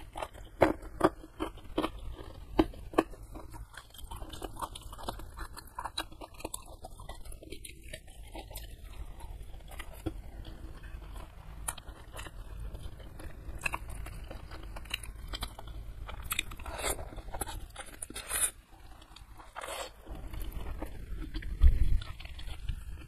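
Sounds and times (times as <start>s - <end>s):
wet chewing: 0.0s - 23.0s.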